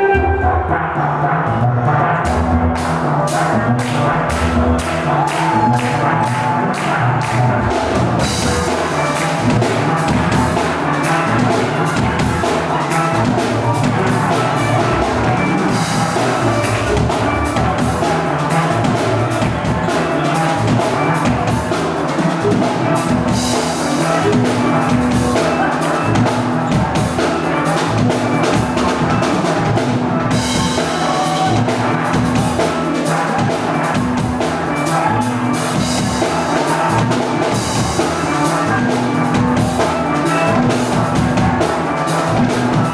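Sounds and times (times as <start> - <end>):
steelpans playing melody: 0.0 - 42.9
drum kit beat: 2.0 - 42.9.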